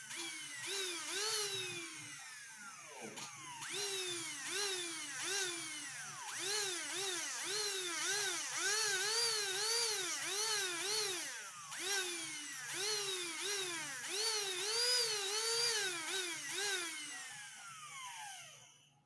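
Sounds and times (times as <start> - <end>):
rotary tool whining: 0.0 - 18.6.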